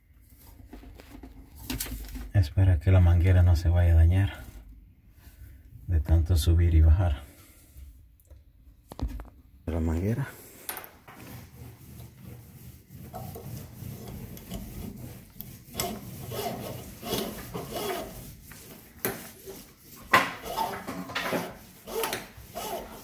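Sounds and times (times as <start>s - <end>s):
rubbing and scraping of parts: 0.0s - 6.5s, 8.9s - 23.0s.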